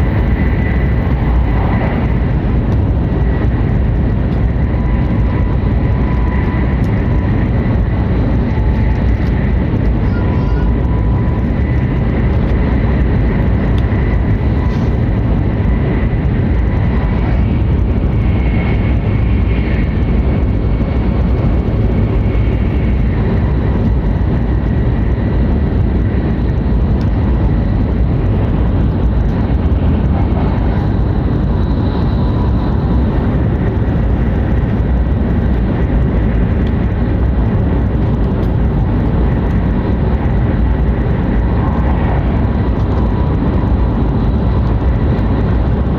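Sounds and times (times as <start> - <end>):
train cabin rumble: 0.0 - 45.9.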